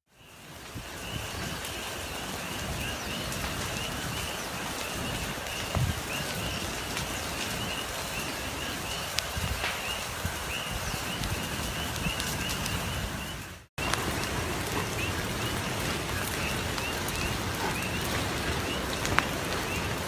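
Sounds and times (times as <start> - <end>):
wind-like rumble and hiss: 0.2 - 20.0
crackles: 0.3 - 20.0.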